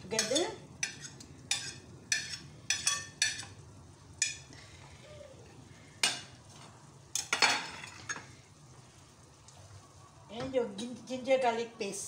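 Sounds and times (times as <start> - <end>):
faint sizzle in frying pan: 0.0 - 12.0.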